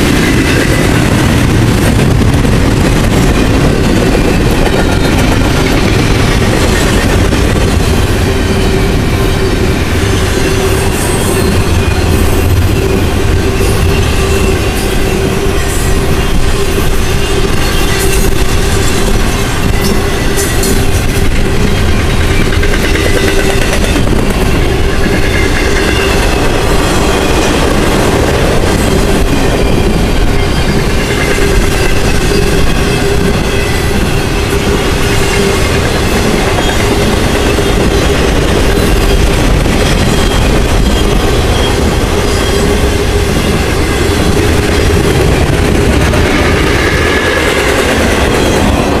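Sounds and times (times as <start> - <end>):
freight train wheels clattering: 0.0 - 49.0.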